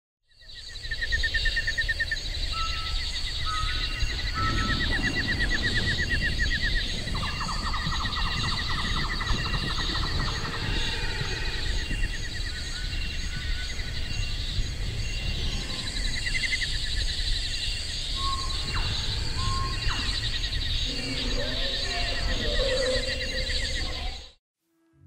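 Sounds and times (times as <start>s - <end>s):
insects trilling: 0.4s - 24.4s
low rumble: 3.7s - 24.2s.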